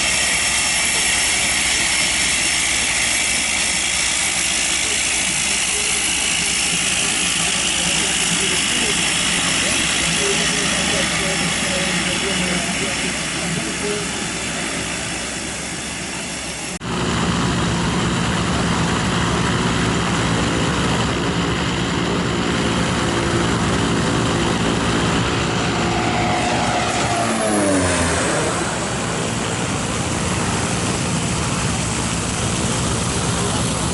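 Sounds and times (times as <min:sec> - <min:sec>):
propeller plane flying past: 0:00.0 - 0:33.9.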